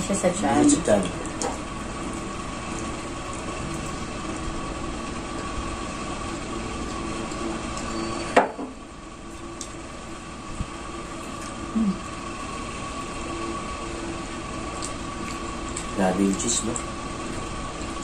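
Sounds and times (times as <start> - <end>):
appliance humming: 0.0 - 18.0.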